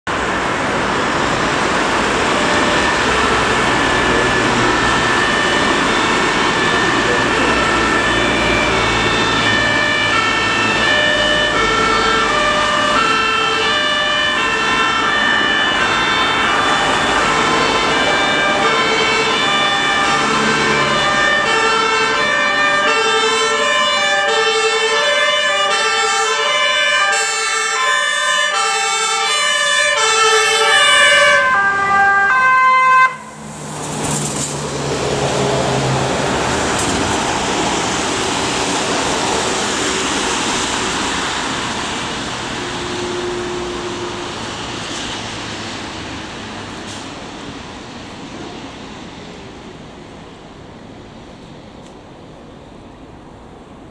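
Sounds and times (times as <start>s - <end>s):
vehicle engines rumbling: 0.0s - 53.9s
two-tone emergency sirens: 0.1s - 50.7s
vehicle driving past: 0.4s - 24.1s, 29.4s - 49.3s.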